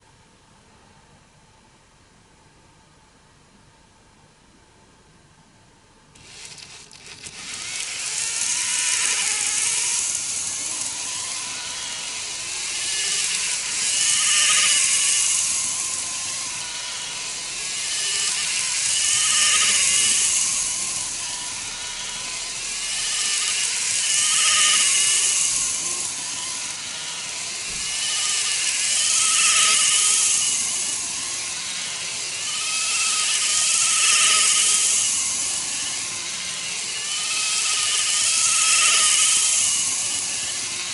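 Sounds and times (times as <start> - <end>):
model train motor whirring: 6.2 - 40.9.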